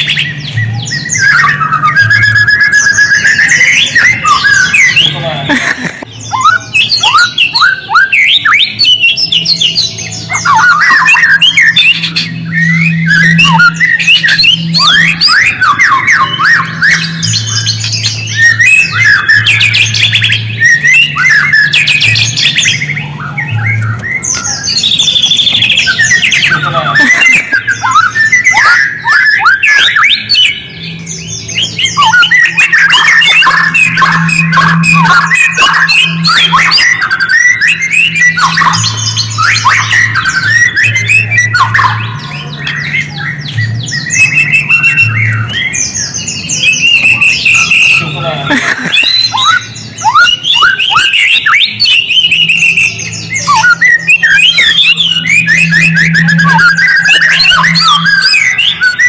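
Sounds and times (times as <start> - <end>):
bird singing rapid chattering phrases: 0.0 - 59.0.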